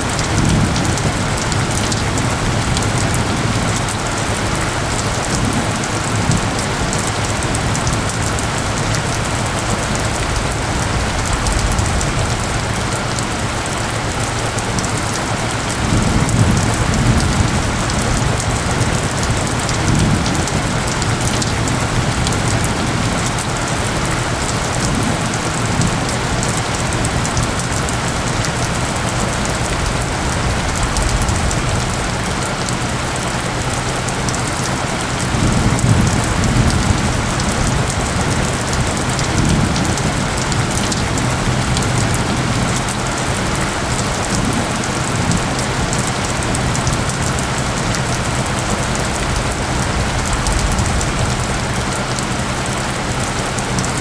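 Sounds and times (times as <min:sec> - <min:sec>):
heavy rain: 0:00.0 - 0:54.0
low thunder rumbles: 0:00.0 - 0:54.0.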